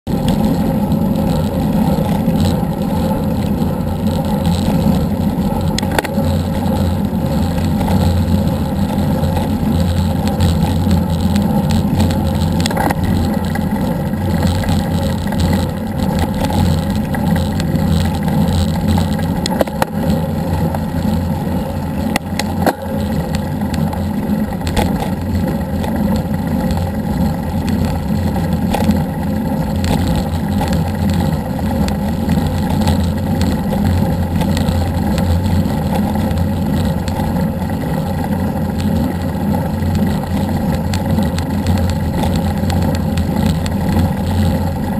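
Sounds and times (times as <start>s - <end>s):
road rumble: 0.0s - 44.9s.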